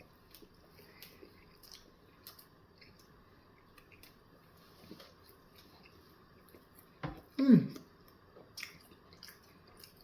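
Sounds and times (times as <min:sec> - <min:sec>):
chewing food: 0:00.0 - 0:10.0.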